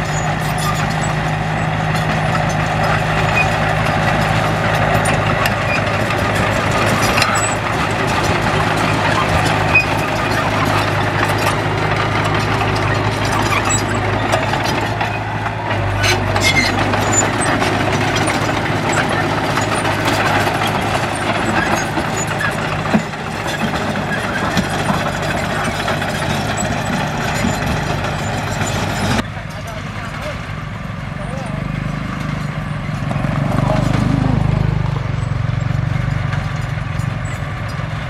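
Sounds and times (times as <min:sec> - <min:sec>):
diesel engine humming: 0:00.0 - 0:38.0.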